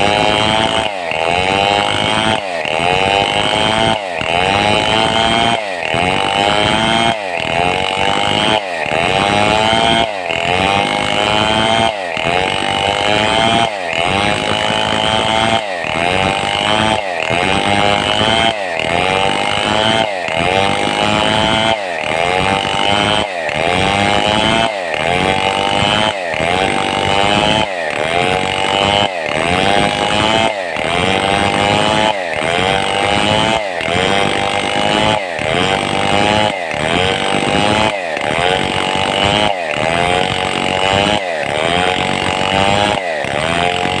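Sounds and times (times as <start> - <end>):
chainsaw sawing a log: 0.0 - 44.0.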